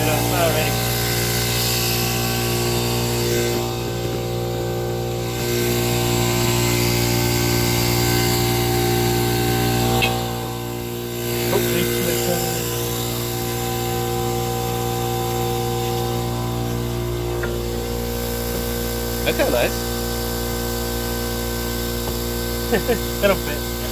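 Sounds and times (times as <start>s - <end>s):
machine motor humming: 0.0s - 23.9s.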